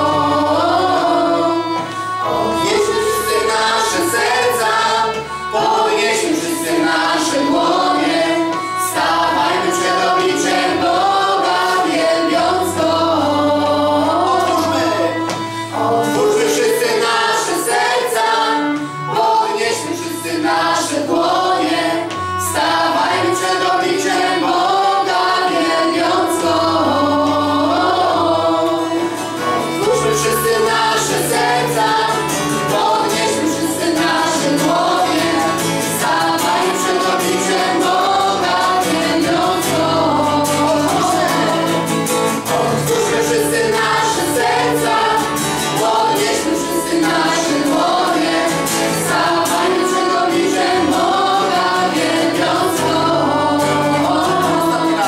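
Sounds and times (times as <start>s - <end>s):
group singing worship song: 0.0s - 55.0s
strummed acoustic guitar: 0.0s - 55.0s.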